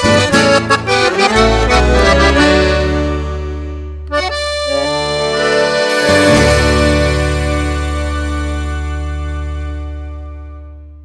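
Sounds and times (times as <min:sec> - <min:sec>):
button accordion: 0:00.0 - 0:10.8
bass: 0:00.0 - 0:11.0
guitar: 0:00.0 - 0:11.0.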